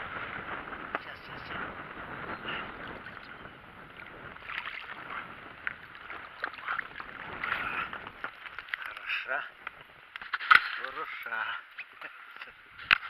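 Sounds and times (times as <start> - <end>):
water splashing beside a boat: 0.1 - 13.0.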